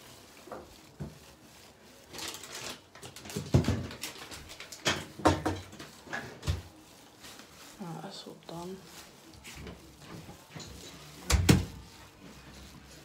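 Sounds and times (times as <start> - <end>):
household things being handled: 0.0 - 13.0.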